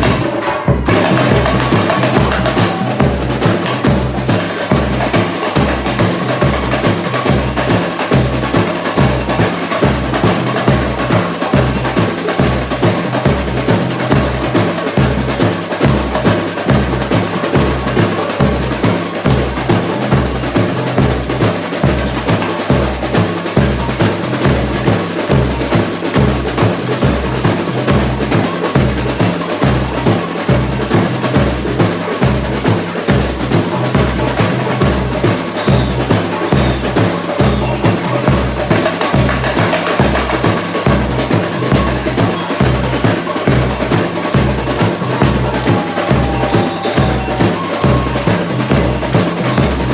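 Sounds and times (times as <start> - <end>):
bass drums beating: 0.0 - 49.9
rapid snare and percussion: 0.0 - 49.9.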